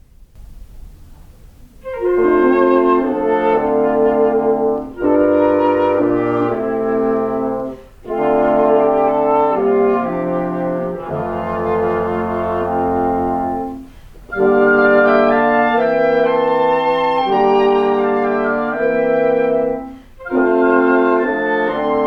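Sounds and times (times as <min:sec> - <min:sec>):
woodwind quintet playing chords: 0:01.7 - 0:22.0.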